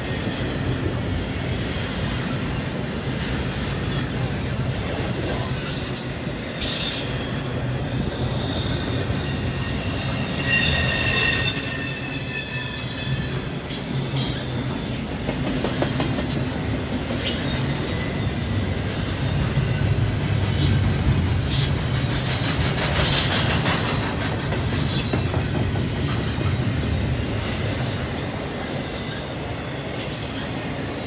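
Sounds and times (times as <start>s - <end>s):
sharp train clacks: 0.0s - 31.0s
train rumbling past: 0.0s - 31.0s
train wheels squealing: 3.2s - 31.0s.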